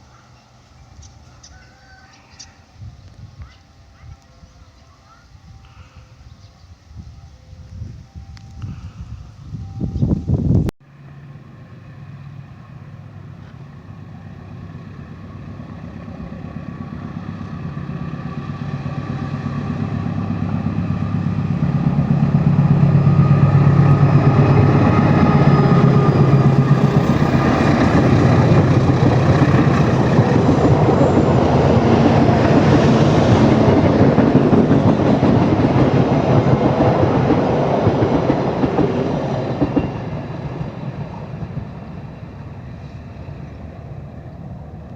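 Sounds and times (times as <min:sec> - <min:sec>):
locomotive engine: 0:00.0 - 0:44.9
wheels rushing on rails: 0:00.0 - 0:44.9.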